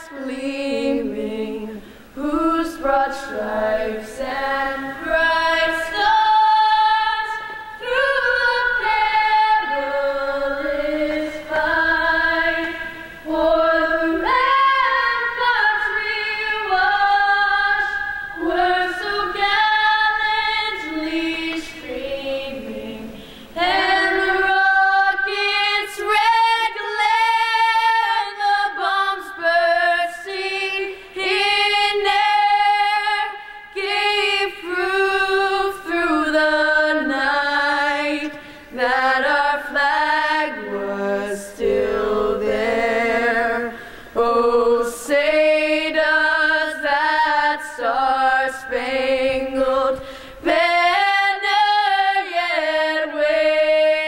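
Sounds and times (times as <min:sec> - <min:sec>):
women singing an anthem: 0:00.0 - 0:54.0.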